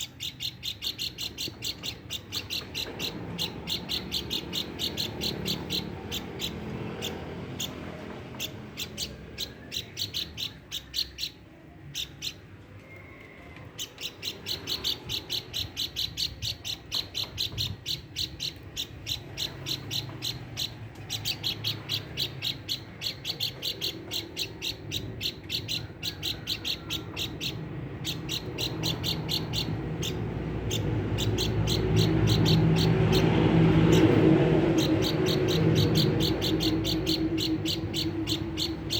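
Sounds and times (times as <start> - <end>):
babbler chirping: 0.0 - 12.4, 13.8 - 38.9.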